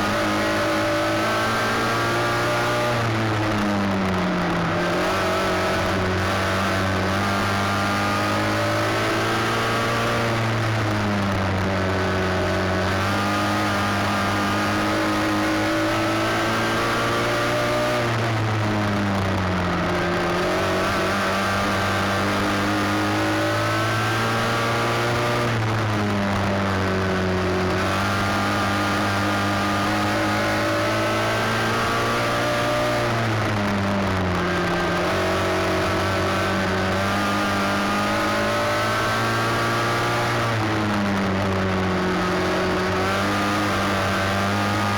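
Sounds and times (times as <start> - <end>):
race car engines: 0.0 - 44.9.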